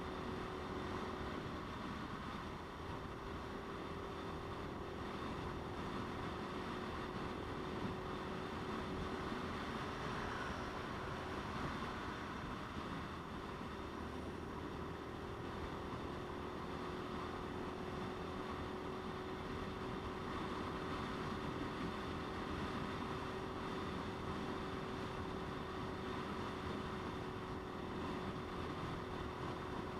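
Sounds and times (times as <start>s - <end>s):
motorcycle engine cruising: 0.0s - 29.9s
wind and road noise: 0.0s - 29.9s.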